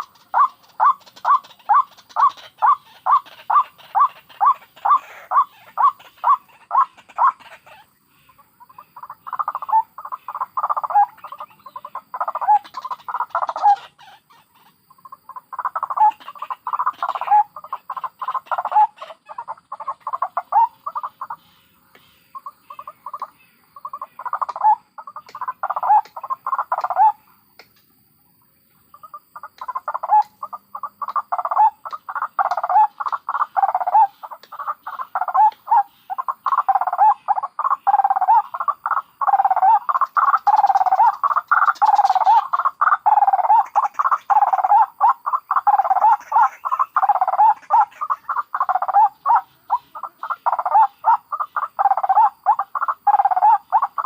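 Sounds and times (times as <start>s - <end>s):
waterhens calling: 0.0s - 27.2s, 28.9s - 54.0s.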